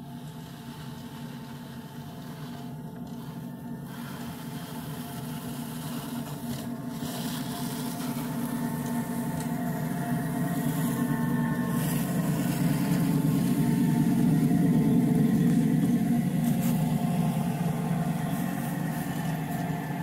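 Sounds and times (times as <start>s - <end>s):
model locomotive motor hum: 0.0s - 20.0s.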